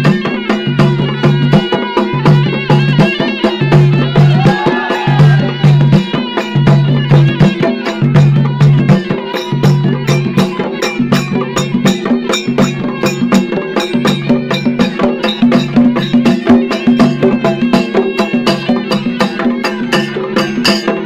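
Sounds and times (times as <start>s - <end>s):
fast drum strokes: 0.0s - 21.0s
reedy melody: 0.0s - 21.0s.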